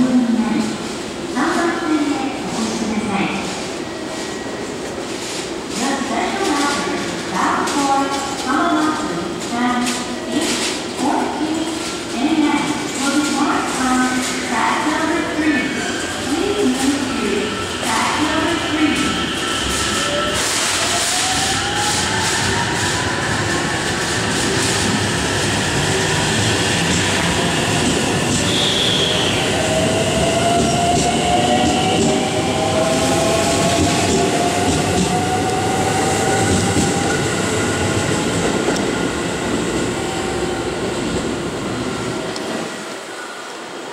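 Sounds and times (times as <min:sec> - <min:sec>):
rumble of train wheels: 0:00.0 - 0:43.2.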